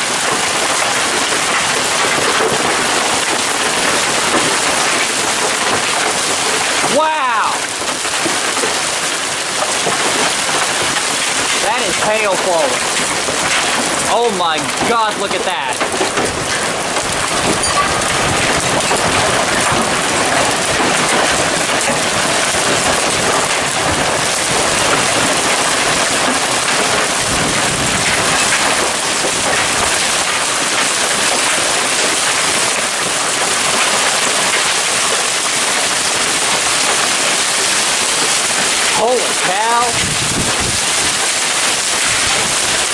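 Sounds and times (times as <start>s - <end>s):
hail clattering: 0.0s - 42.9s
pouring rain: 0.0s - 42.9s.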